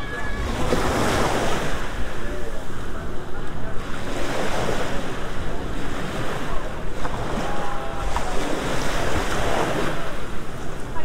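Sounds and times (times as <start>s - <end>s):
wave breaking close by: 0.0s - 11.0s
waves lapping around pilings: 0.0s - 11.0s.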